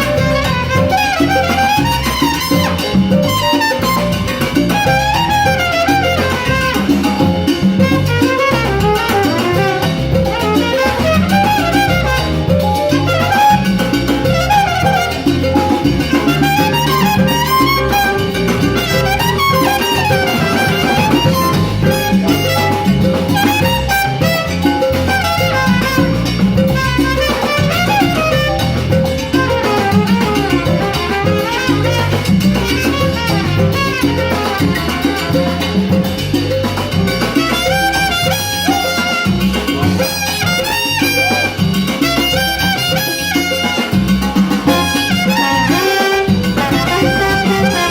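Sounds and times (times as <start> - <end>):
horn lines: 0.0 - 36.3, 37.0 - 47.9
salsa band playing: 0.0 - 47.9.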